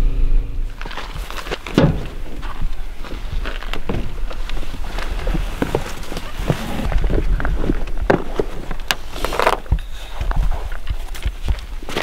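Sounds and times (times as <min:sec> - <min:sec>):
footsteps on gravel: 0:00.7 - 0:12.0.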